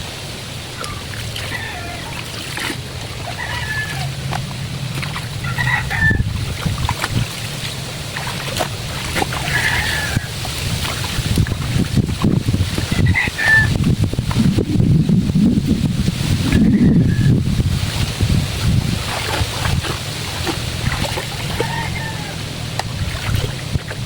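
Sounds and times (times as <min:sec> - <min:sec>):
chickens clucking: 0:00.7 - 0:07.2, 0:08.1 - 0:14.5, 0:16.3 - 0:23.9
water splashing from hand washing: 0:00.8 - 0:14.6, 0:17.6 - 0:22.0, 0:22.8 - 0:24.0.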